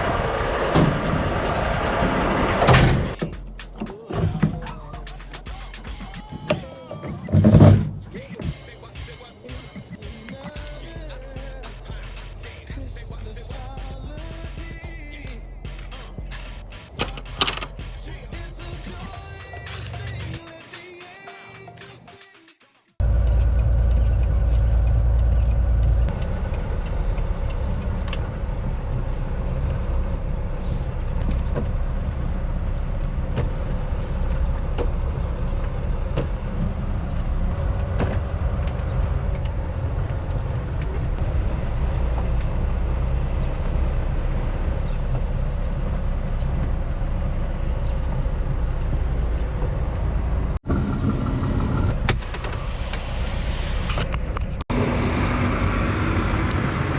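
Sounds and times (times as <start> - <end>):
truck engine drone: 0.0 - 20.6, 23.0 - 56.9
road noise: 0.0 - 22.0, 23.0 - 56.9.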